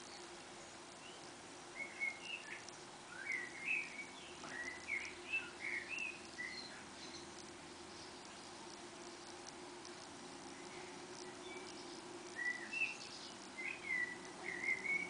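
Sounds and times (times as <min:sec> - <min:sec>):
faint steady hum: 0:00.0 - 0:15.0
small songbird twittering: 0:00.0 - 0:15.0.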